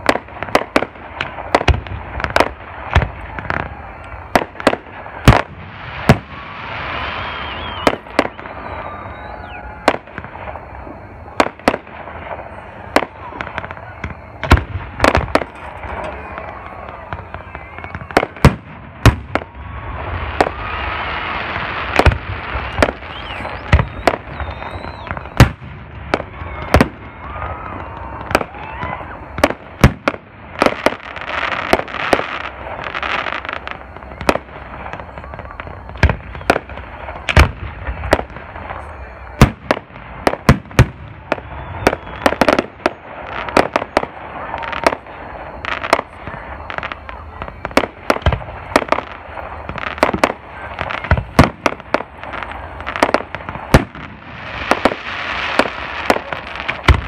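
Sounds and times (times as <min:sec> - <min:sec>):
fireworks booming: 0:00.0 - 0:57.0
fireworks hissing and crackling: 0:00.0 - 0:57.0.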